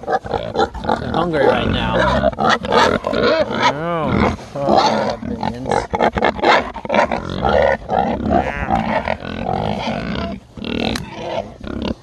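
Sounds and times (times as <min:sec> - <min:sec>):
pigs grunting and squealing: 0:00.0 - 0:12.0.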